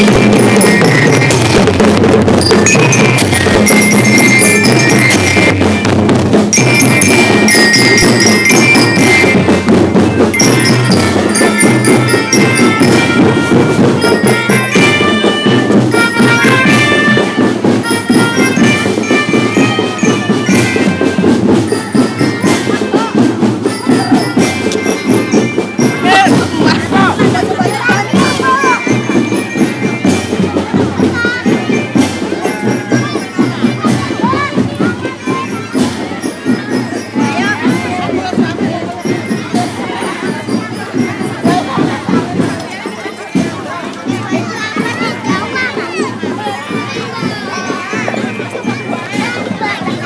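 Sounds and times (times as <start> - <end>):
bell-like melody: 0.0 - 50.0
snare and bass drums: 0.0 - 50.0.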